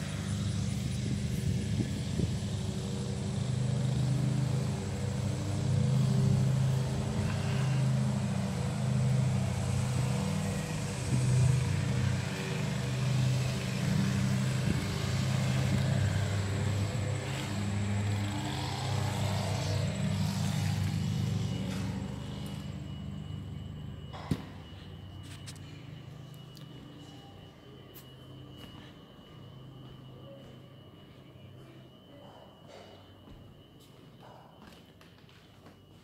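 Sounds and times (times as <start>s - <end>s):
low motor hum: 0.0s - 30.2s.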